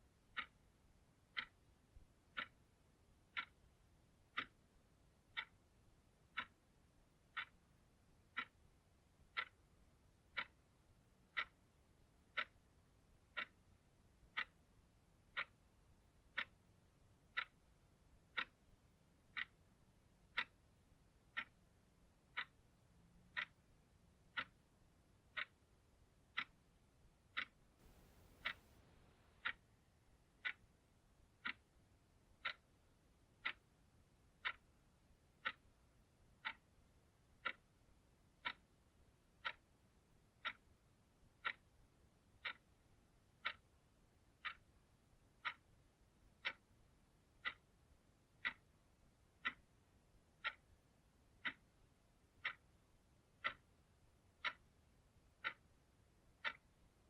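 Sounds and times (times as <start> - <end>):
clock ticking: 0.0 - 57.0.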